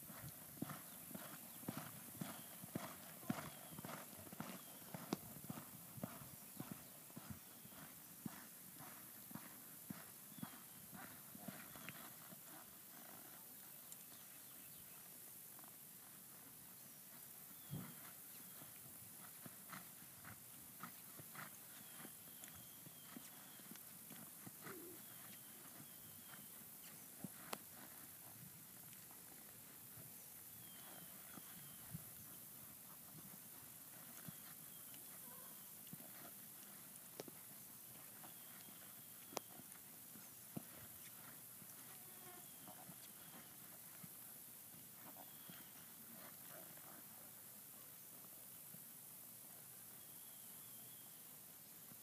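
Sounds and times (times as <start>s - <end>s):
horse hooves in sand: 0.0s - 51.1s.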